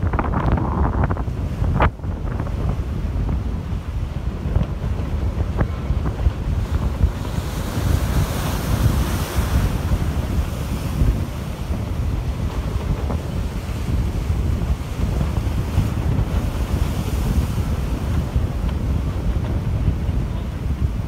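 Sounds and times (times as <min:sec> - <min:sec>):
rough surf: 0:00.0 - 0:21.0
wind buffeting microphone: 0:00.0 - 0:21.0.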